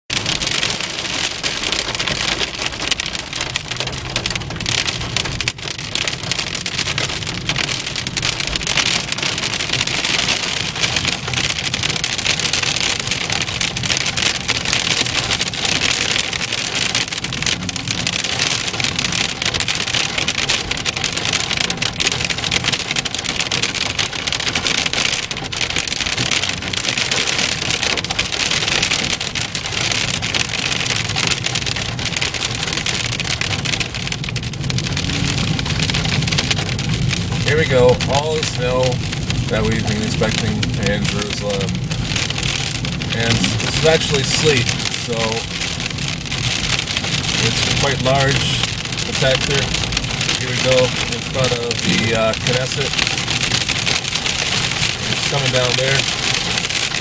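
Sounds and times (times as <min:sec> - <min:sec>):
car engine and tyres: 0:00.1 - 0:57.0
hail on car roof: 0:00.1 - 0:57.0.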